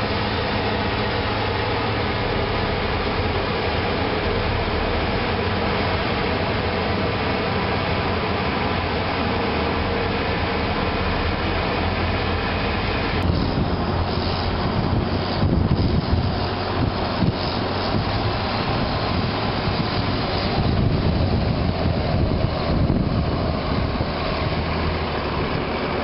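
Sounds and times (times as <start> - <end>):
heavy farm machinery running: 0.0 - 26.0.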